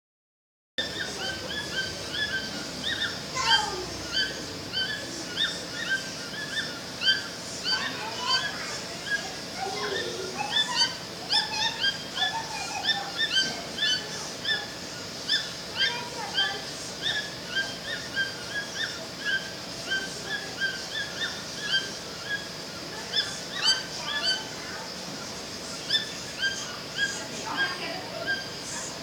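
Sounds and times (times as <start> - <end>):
toucans calling: 0.8 - 29.0.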